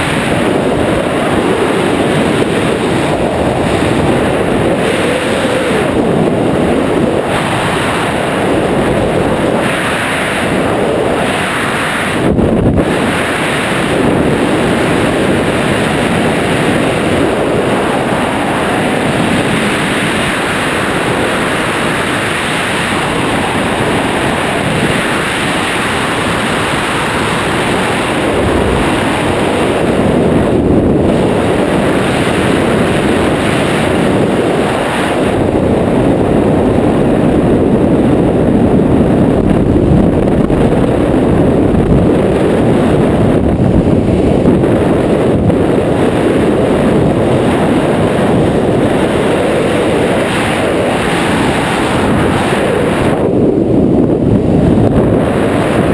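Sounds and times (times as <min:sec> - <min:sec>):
wind roaring over microphone: 0:00.0 - 0:55.9.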